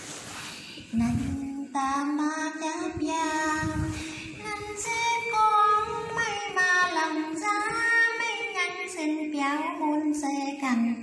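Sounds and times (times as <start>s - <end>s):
woman singing into a microphone: 0.8s - 11.0s.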